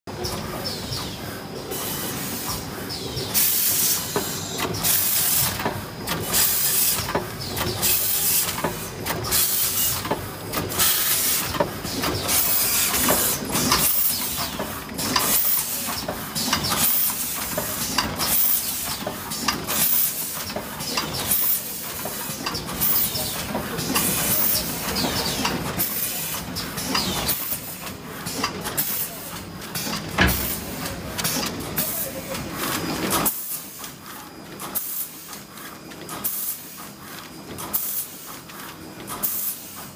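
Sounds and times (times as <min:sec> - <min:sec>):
packing machine running: 0:00.1 - 0:39.9.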